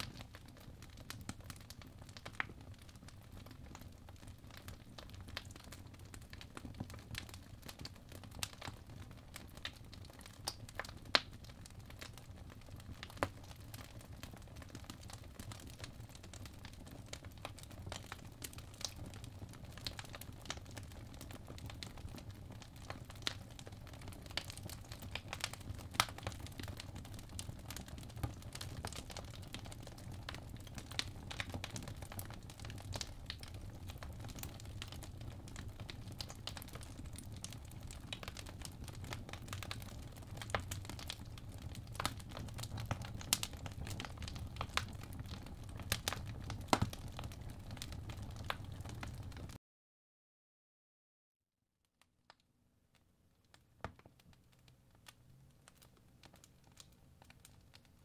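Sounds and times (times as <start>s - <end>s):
fireplace crackling and popping: 0.0s - 49.6s, 52.0s - 58.0s.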